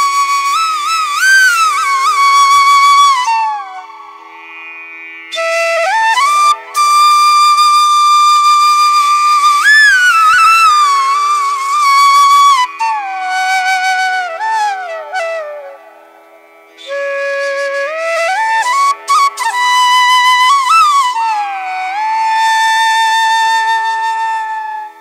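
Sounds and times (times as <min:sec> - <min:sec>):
flute playing slow melody: 0:00.0 - 0:04.6, 0:05.3 - 0:16.2, 0:16.8 - 0:25.0.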